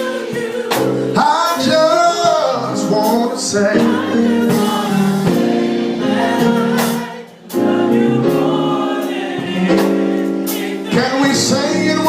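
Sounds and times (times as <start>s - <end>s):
gospel choir singing: 0.0s - 12.0s
instrumental accompaniment: 0.0s - 12.0s.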